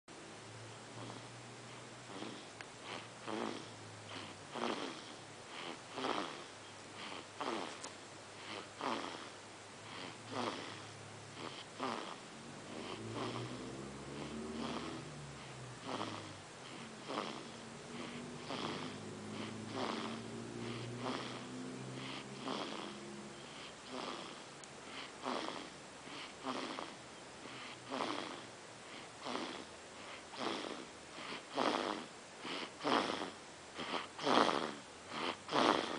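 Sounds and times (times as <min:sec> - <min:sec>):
person snoring: 0:00.9 - 0:01.4, 0:02.1 - 0:07.8, 0:08.4 - 0:24.4, 0:25.0 - 0:28.5, 0:29.2 - 0:29.7, 0:30.3 - 0:35.9.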